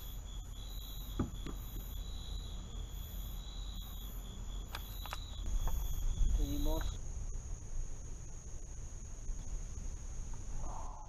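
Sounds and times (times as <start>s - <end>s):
crickets trilling: 0.0s - 11.0s
pulsing insect call: 0.0s - 11.0s.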